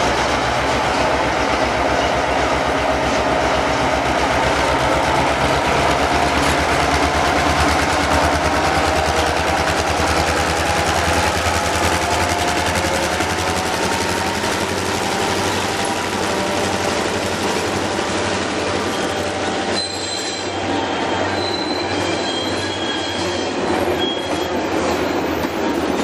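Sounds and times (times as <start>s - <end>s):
diesel locomotive engine throb: 0.0s - 21.2s
train wagons passing: 0.0s - 26.0s.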